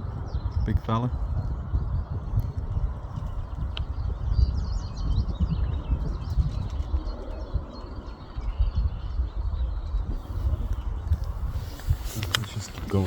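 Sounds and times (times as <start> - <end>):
birds chirping: 0.0 - 13.0
wind rumble on microphone: 0.0 - 13.0.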